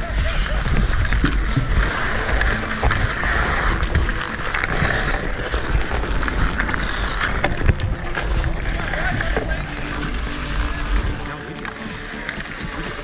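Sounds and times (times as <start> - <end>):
skate blades scraping on ice: 0.0 - 13.0
wind buffeting microphone: 0.0 - 13.0.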